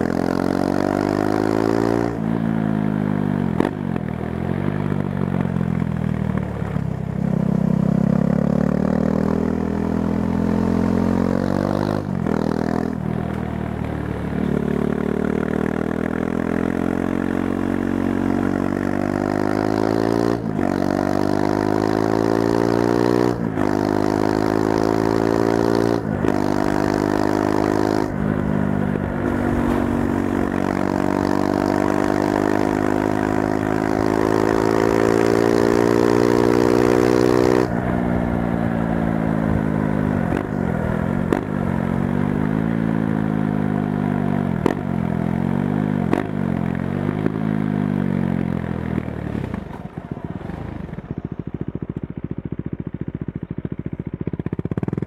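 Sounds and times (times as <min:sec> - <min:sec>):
motorcycle engine accelerating and shifting: 0:00.0 - 0:55.0.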